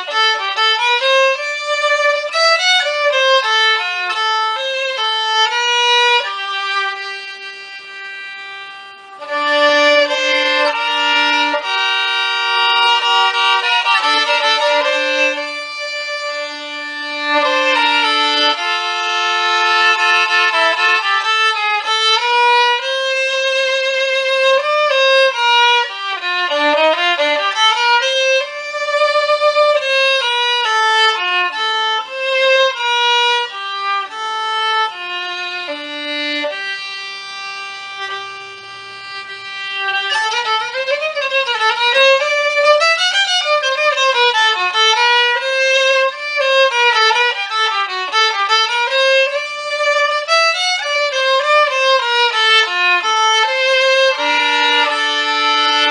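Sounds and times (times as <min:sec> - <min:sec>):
solo violin slow melody: 0:00.0 - 0:55.9.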